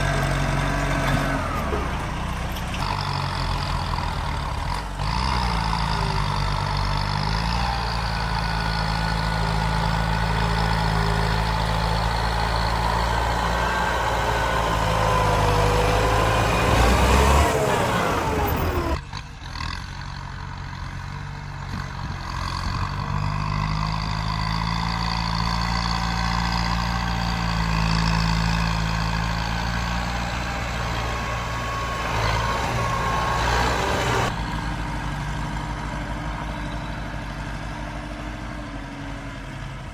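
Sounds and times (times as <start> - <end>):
tractor engine revving under load: 0.0 - 39.9.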